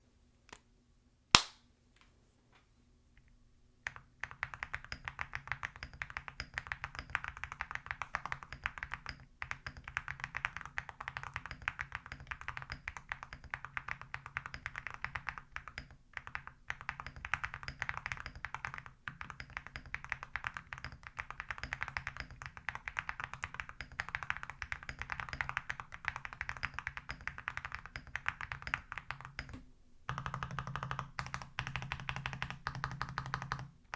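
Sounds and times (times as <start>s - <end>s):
fast mechanical keyboard typing: 3.8s - 33.7s.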